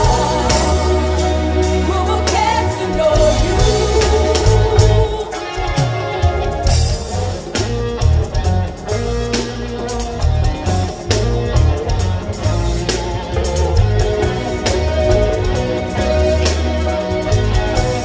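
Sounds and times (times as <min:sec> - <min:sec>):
drums: 0:00.0 - 0:18.0
electric guitar lines: 0:00.0 - 0:18.0
pulsing bass guitar: 0:00.0 - 0:18.0.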